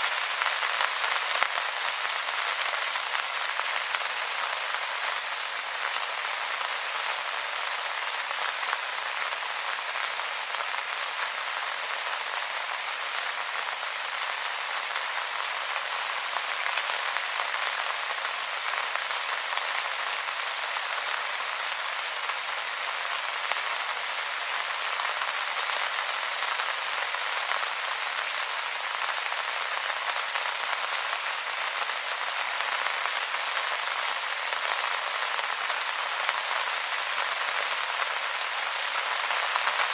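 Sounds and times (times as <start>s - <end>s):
rain pattering on wet leaves: 0.0s - 39.9s.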